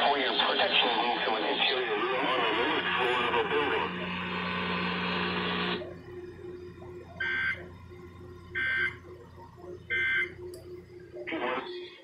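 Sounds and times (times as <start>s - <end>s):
radio broadcast audio: 0.0s - 7.7s, 8.9s - 12.0s.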